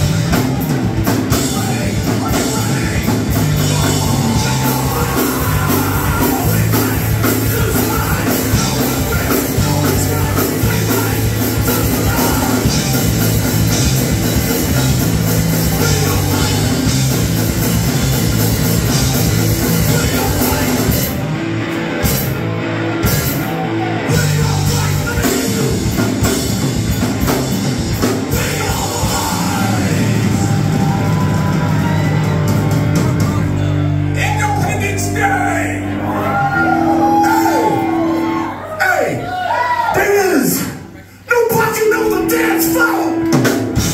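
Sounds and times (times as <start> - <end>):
shouted lead vocal: 0.0 - 14.8, 15.4 - 17.8, 18.8 - 21.2, 23.0 - 26.4, 28.0 - 32.7, 34.1 - 43.4
punk rock band playing: 0.0 - 43.9.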